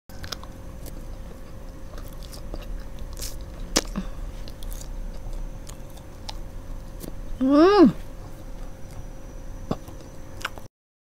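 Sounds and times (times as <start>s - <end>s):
chewing soft marshmallow: 0.1s - 7.2s, 8.0s - 10.7s.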